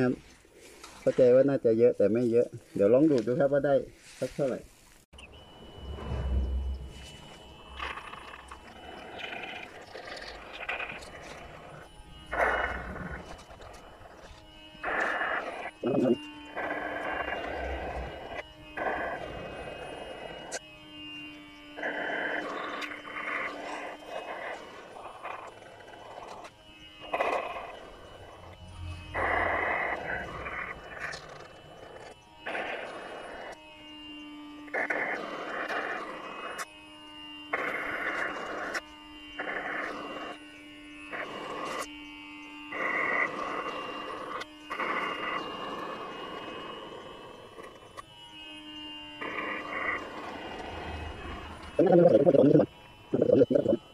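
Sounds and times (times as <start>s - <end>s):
suction machine humming: 5.2s - 53.9s.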